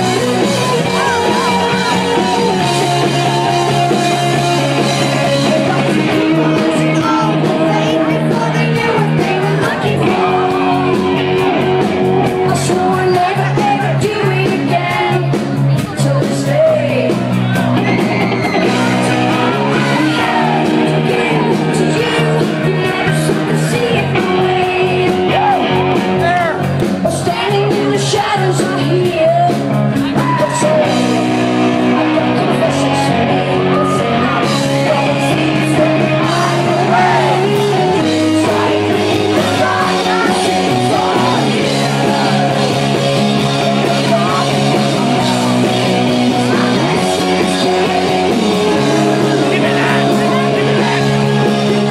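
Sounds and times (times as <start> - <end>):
woman singing lead: 0.0 - 26.0, 27.0 - 51.9
drums: 0.0 - 51.9
guitar: 0.0 - 51.9
steady bass notes: 0.0 - 51.9.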